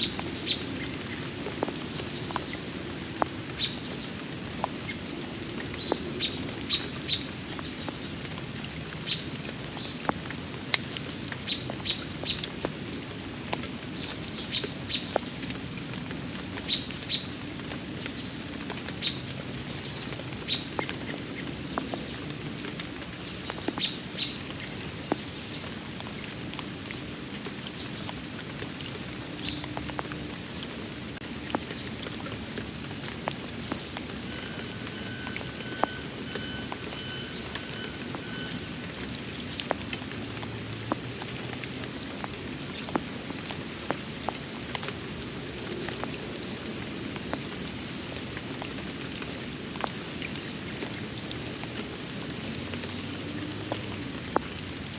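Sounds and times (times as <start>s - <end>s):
rain falling on a pond: 0.0s - 54.9s.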